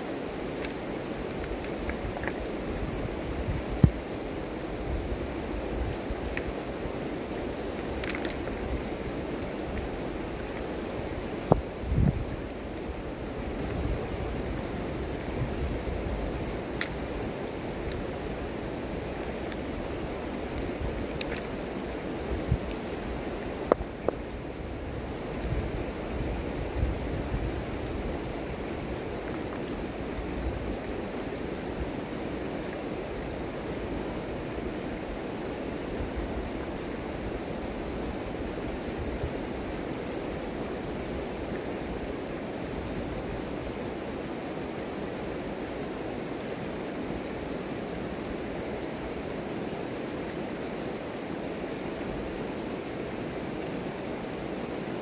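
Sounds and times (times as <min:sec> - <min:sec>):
river rushing over gravel: 0:00.0 - 0:55.0
wind rumble on microphone: 0:00.0 - 0:55.0.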